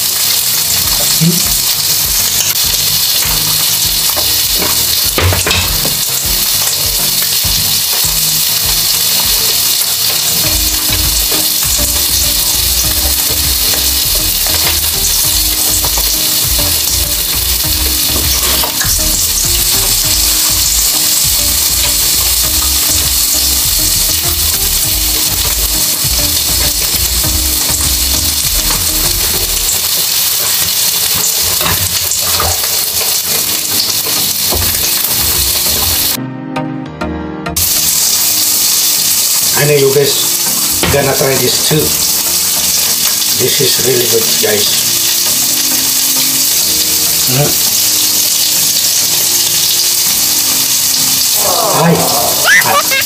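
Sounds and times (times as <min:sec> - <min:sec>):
meat sizzling on a grill: 0:00.0 - 0:36.2, 0:37.6 - 0:53.0.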